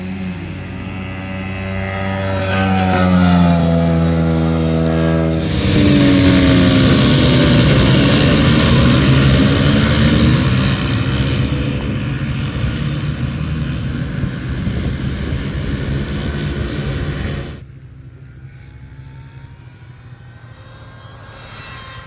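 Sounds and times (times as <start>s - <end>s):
faint engine revving: 0.0s - 22.0s
motorcycle engines running: 0.0s - 22.0s.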